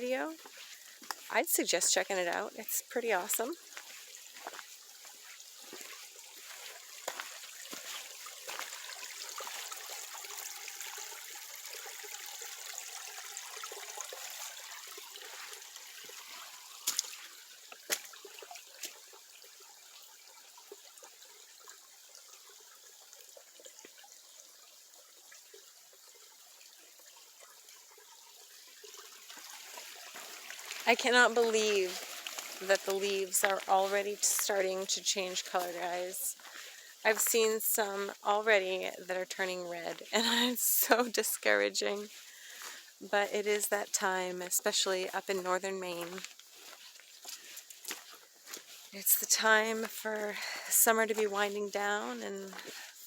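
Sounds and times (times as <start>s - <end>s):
brook water running: 0.0s - 53.0s.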